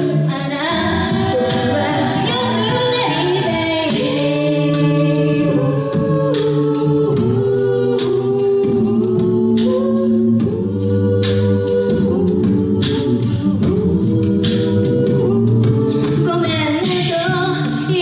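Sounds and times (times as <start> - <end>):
backing vocal chords: 0.0 - 18.0
vocal percussion beat: 0.0 - 18.0
woman singing lead: 0.0 - 18.0.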